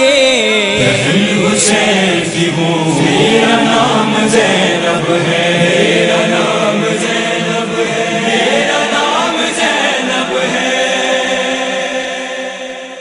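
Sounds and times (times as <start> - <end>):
chorus chanting: 0.8 - 13.0.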